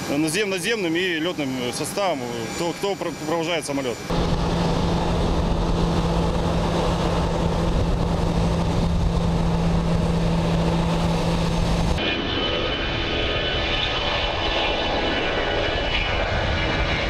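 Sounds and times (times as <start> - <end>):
jet engines droning: 0.0 - 17.0
whining jet engine: 0.0 - 17.0.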